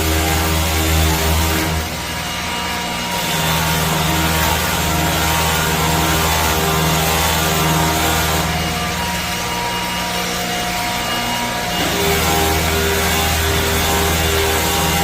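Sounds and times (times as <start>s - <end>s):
buffing machine grinding metal: 0.0s - 15.0s.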